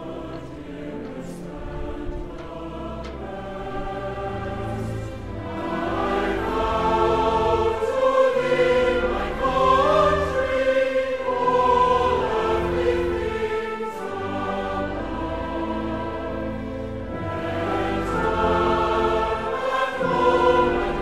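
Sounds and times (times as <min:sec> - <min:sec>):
choir singing slow chords: 0:00.0 - 0:21.0.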